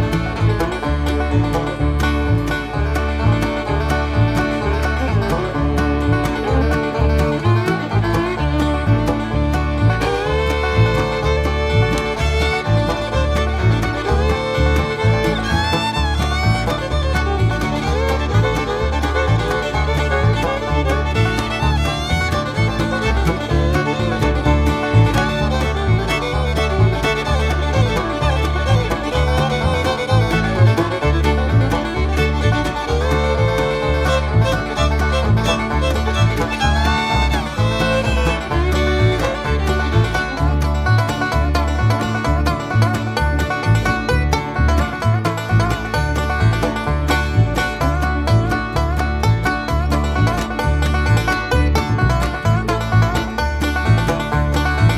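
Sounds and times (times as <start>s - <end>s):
bluegrass music: 0.0s - 54.9s.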